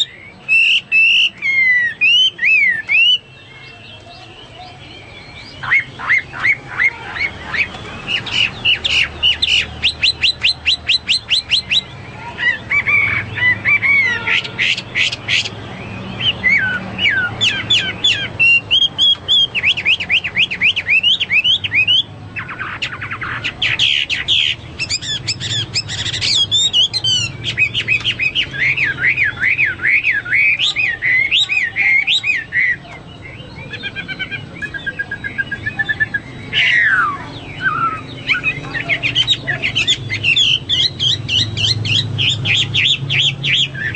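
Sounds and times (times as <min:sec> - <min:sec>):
bird singing: 0:00.0 - 0:43.9.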